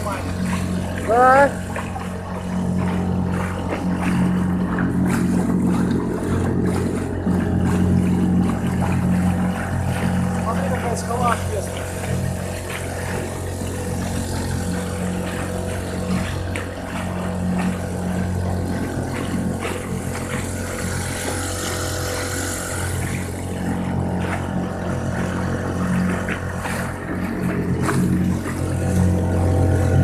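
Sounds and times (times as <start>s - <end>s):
small boat motor running: 0.0s - 30.0s
water lapping against hull: 0.0s - 30.0s.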